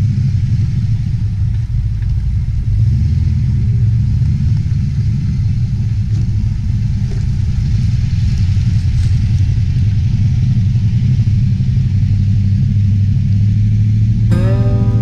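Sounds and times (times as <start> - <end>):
engine rumbling at low revs: 0.0 - 15.0.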